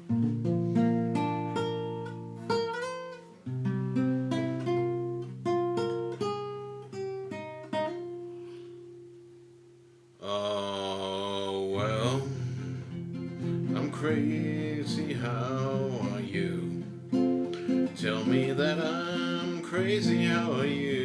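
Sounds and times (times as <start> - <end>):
acoustic guitar picking: 0.0 - 21.0.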